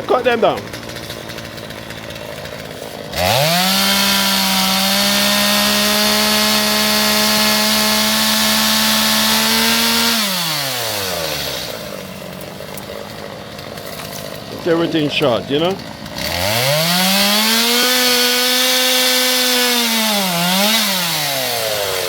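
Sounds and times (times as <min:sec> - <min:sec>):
chainsaw cutting brush: 0:00.0 - 0:22.0.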